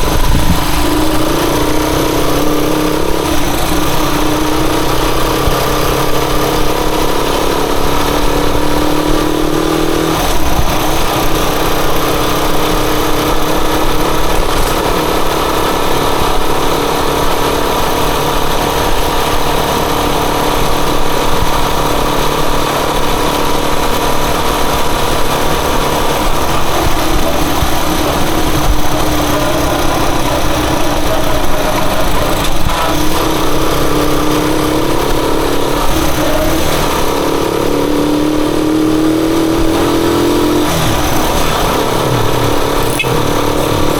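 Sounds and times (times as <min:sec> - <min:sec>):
heavy rush of noise: 0:00.0 - 0:43.9
motorcycle engine running: 0:00.0 - 0:43.9.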